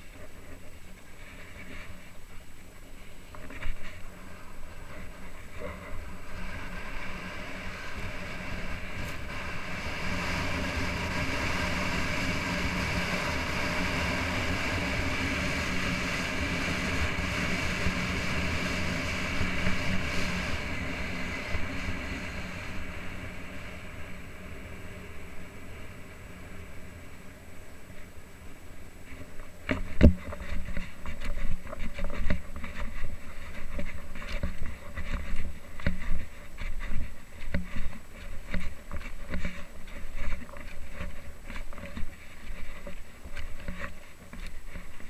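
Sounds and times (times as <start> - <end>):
skis scraping on snow: 0.0 - 45.0
wind rushing over microphone: 0.0 - 45.0.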